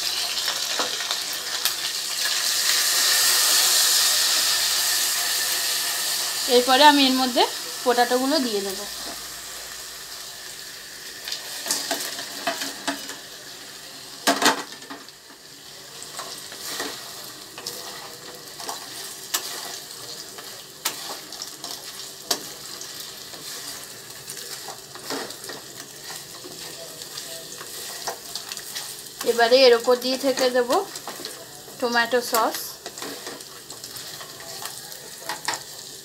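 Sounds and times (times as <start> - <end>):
sauce sizzling in a frying pan: 0.0 - 36.0.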